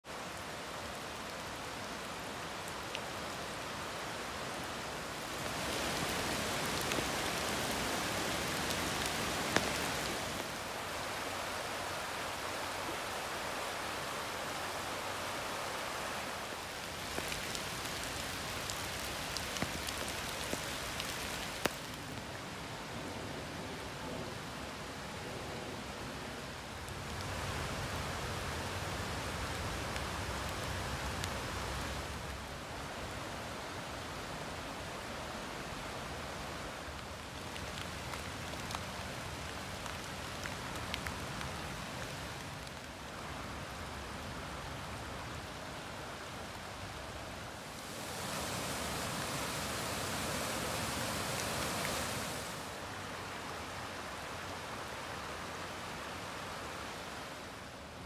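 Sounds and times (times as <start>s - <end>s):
creek water rushing: 0.1s - 58.0s.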